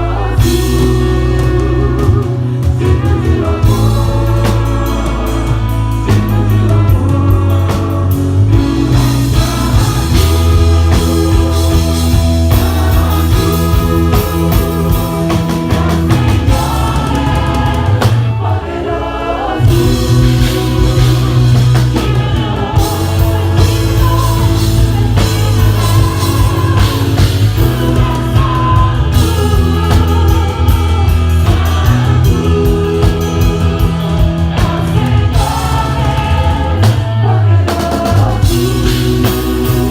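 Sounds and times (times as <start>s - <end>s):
gospel band with singing: 0.0s - 39.9s.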